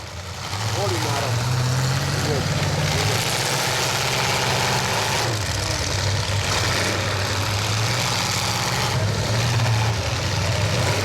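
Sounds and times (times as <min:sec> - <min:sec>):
truck engines running: 0:00.0 - 0:11.0.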